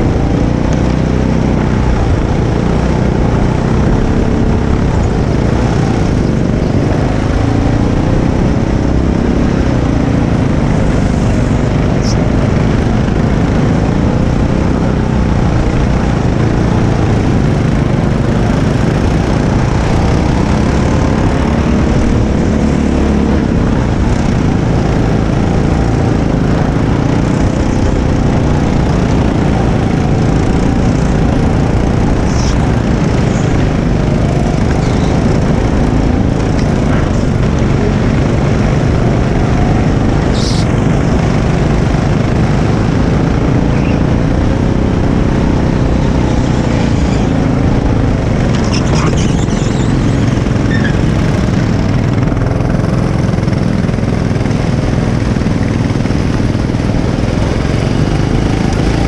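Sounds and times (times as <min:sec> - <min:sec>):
go-kart engine racing: 0:00.0 - 0:59.0
wind noise on microphone: 0:00.0 - 0:59.0.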